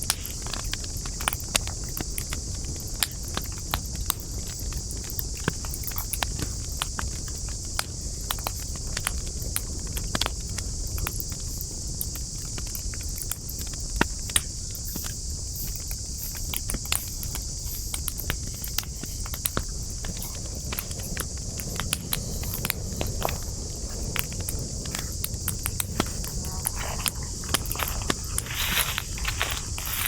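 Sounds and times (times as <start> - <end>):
campfire crackling and popping: 0.0 - 30.0
insects chirring: 0.0 - 30.0
low rumble of flames: 0.0 - 30.0.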